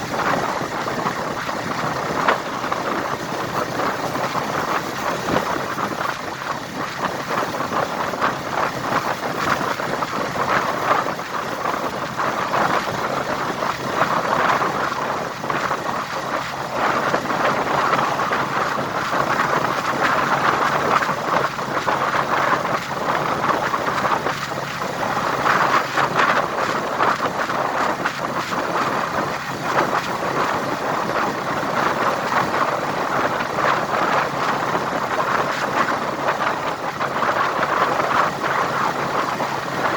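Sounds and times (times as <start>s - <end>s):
rushing wind and road noise: 0.0s - 39.9s
wind buffeting microphone: 0.0s - 39.9s.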